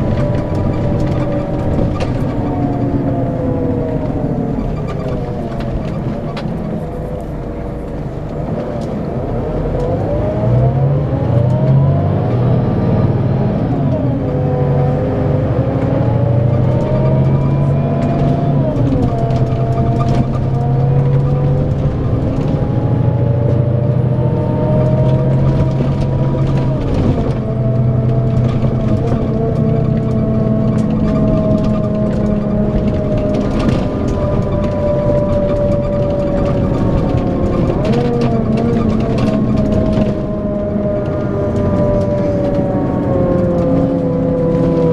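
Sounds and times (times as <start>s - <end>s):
diesel engine accelerating: 0.0s - 44.9s.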